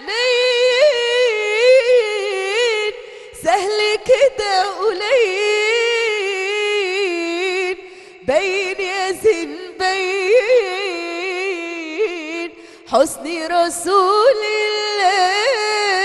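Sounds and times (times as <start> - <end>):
woman singing into a microphone: 0.0 - 16.0.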